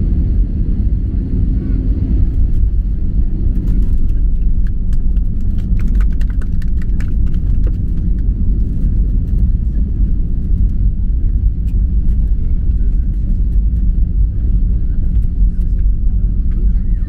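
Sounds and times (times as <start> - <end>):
airplane rolling on runway rumble: 0.0 - 17.0.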